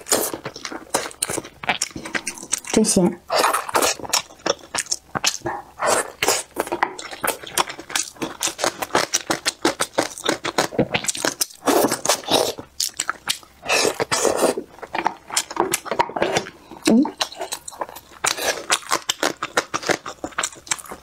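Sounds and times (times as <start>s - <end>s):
chewing with wet mouth smacks: 0.0s - 21.0s.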